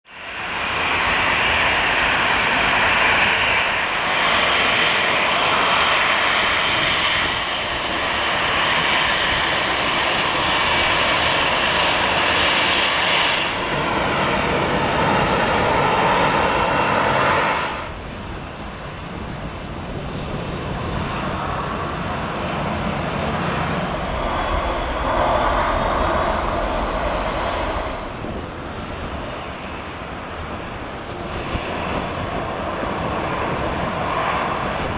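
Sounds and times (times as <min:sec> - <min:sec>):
jet engines whining and rumbling: 0:00.0 - 0:34.9.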